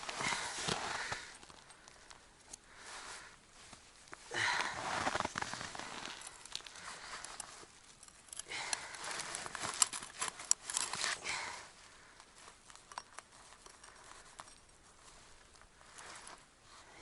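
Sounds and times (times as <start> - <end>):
rustling and crackling handling noise: 0.0 - 17.0.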